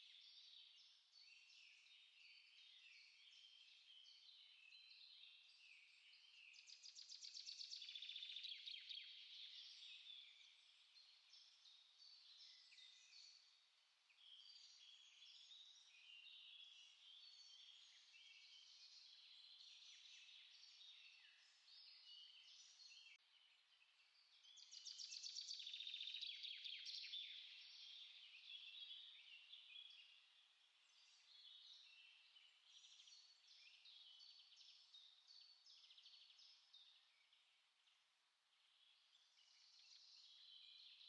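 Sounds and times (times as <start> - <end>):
small songbirds singing: 0.0 - 41.0.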